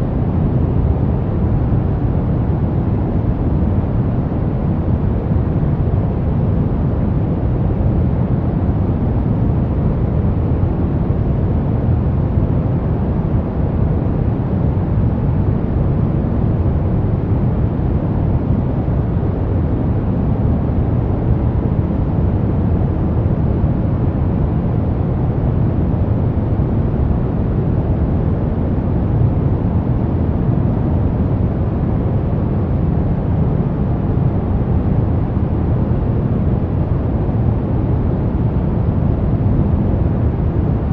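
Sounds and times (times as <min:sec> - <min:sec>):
deep brown noise hiss: 0:00.0 - 0:40.9.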